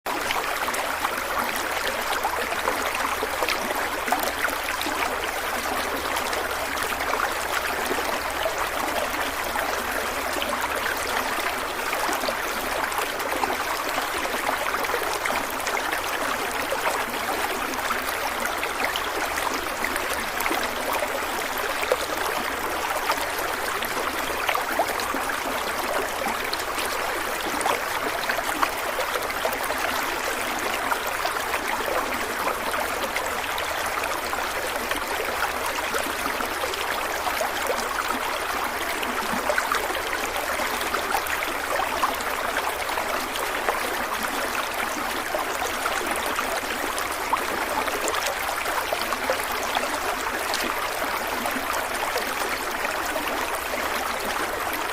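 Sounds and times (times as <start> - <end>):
stream of water flowing: 0.1 - 54.9.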